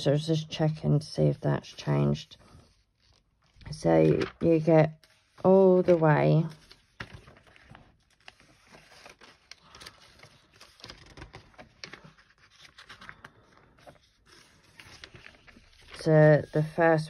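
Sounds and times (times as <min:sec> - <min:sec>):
paper pages flicking and rustling: 0:01.6 - 0:17.0.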